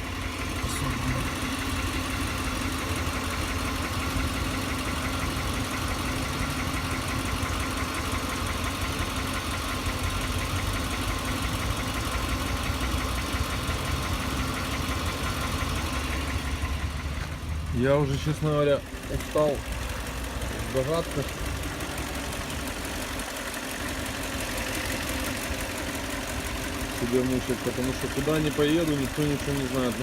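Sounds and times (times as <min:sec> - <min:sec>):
car engine idling with rapid knock: 0:00.0 - 0:30.0.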